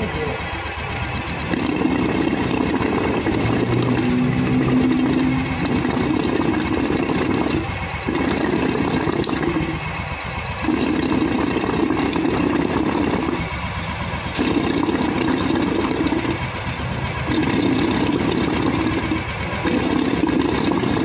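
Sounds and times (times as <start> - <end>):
motorcycle engine idling: 0.0 - 3.4, 4.0 - 11.8, 12.4 - 21.0.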